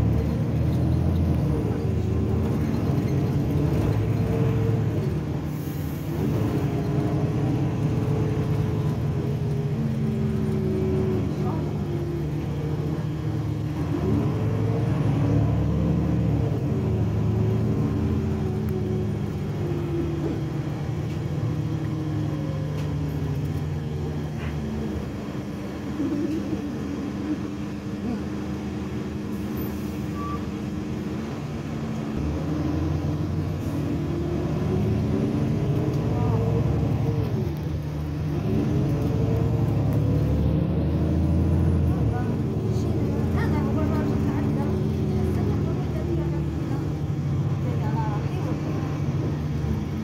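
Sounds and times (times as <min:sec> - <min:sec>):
bus engine droning: 0:00.0 - 0:50.0.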